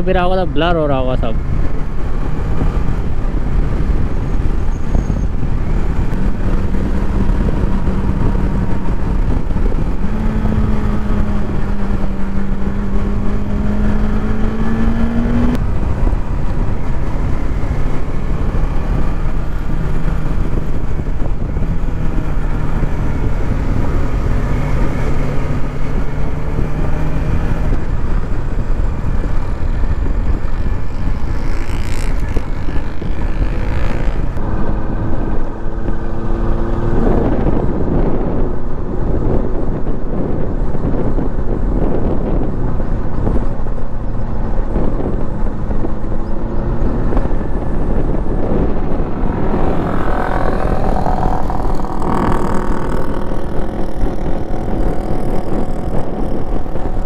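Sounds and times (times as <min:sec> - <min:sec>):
motorcycle engine running: 0:01.2 - 0:57.0.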